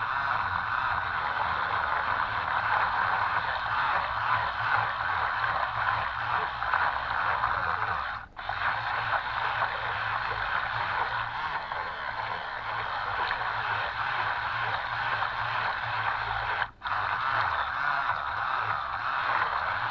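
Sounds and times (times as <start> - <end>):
toy boat motors buzzing: 0.0 - 19.9
water churning at propellers: 0.1 - 19.9.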